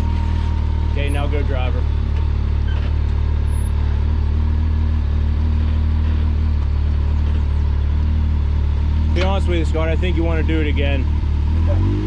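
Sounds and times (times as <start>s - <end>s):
utility vehicle engine idling: 0.0s - 11.9s.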